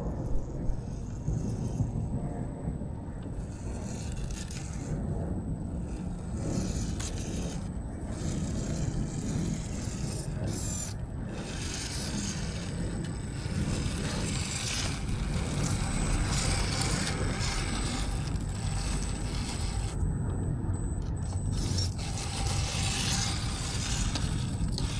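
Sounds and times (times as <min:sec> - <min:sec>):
electric motor whirring: 0:00.8 - 0:02.0, 0:03.2 - 0:24.9
tyres scraping and crunching: 0:03.2 - 0:24.9.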